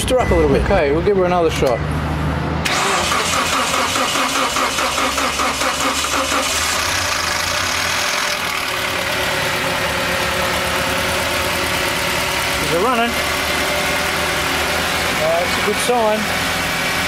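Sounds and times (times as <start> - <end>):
engine cranking and idling: 2.6 - 17.0.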